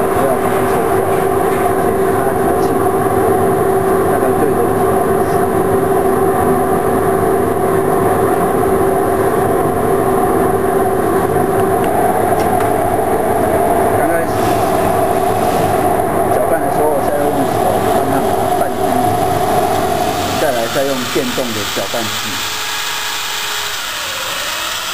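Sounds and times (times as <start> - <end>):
motor droning: 0.0 - 24.9.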